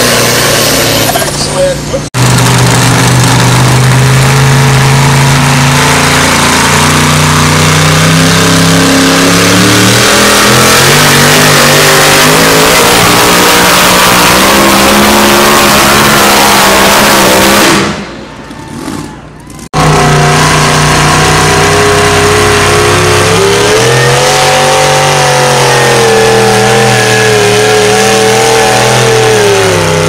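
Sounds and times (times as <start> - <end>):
loud pulling vehicle engine: 0.0 - 30.0.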